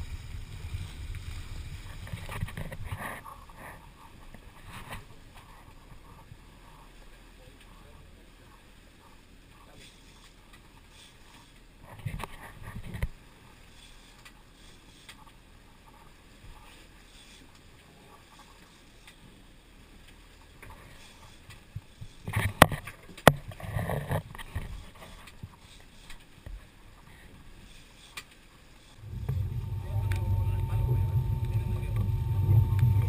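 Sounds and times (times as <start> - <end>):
wind and water wash: 0.0 - 33.0.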